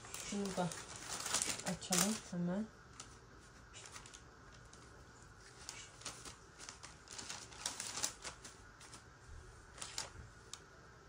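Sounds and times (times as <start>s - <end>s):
baking paper crinkling: 0.0s - 10.6s.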